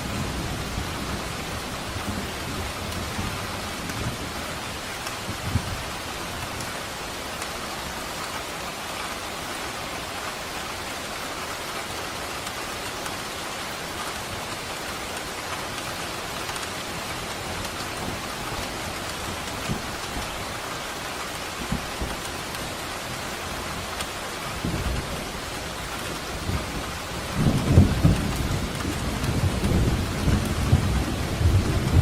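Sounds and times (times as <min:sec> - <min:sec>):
rain pattering on surfaces: 0:00.0 - 0:32.0.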